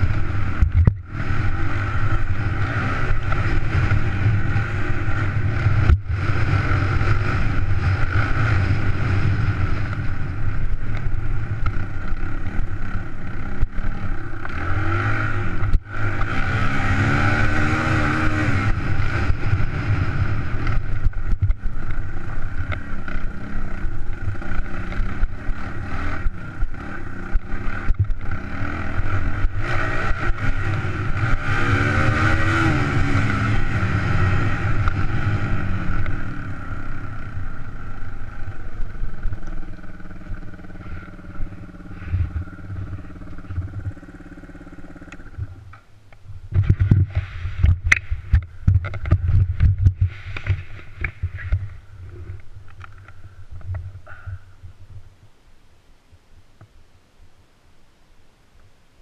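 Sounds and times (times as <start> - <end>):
motorcycle engine revving: 0.0 - 54.8.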